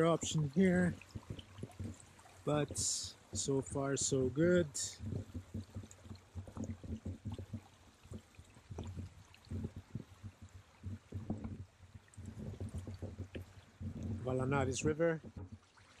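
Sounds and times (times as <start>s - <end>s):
low thumps on microphone: 0.0s - 15.7s
shallow river trickling: 0.0s - 16.0s.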